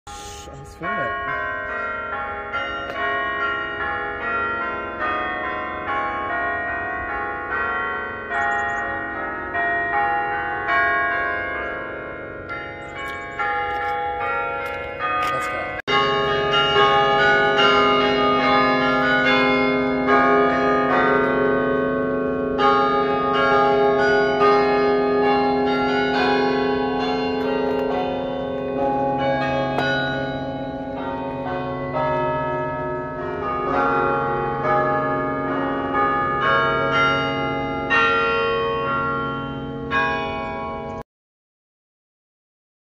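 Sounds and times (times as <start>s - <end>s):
tower bells playing a tune: 0.1s - 41.0s.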